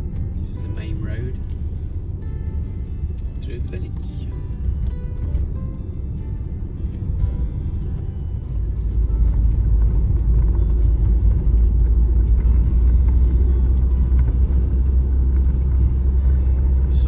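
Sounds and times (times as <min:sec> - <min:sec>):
van engine and tyres rumbling: 0:00.0 - 0:17.0.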